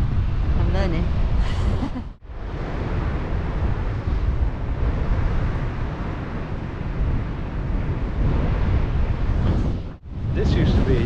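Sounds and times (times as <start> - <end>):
wind buffeting microphone: 0.0 - 11.0
sea surf: 1.5 - 11.0.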